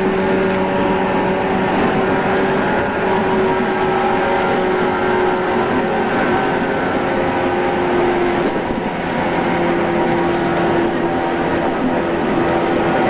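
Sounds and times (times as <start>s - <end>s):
traction motor hum: 0.0s - 13.0s
train wheels rumbling on rails: 0.0s - 13.0s.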